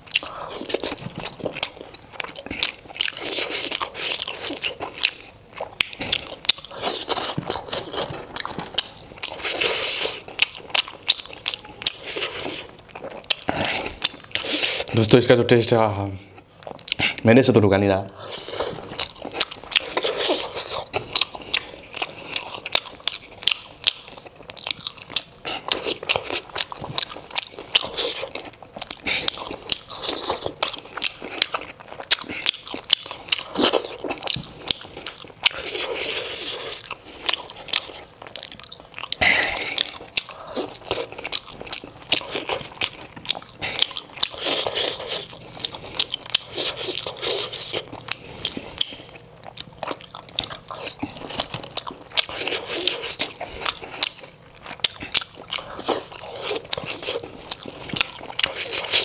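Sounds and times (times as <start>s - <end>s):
chewing dumplings: 0.0s - 17.5s, 18.1s - 59.0s.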